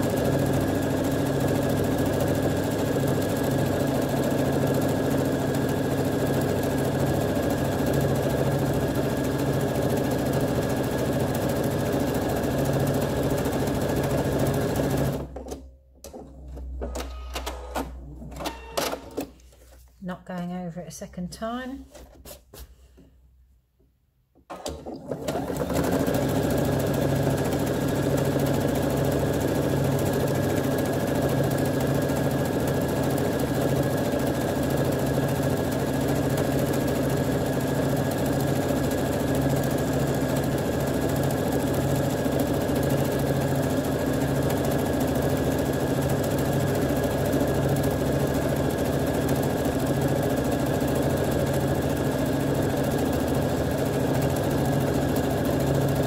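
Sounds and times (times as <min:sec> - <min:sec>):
sewing machine running: 0:00.0 - 0:15.4, 0:24.5 - 0:56.0.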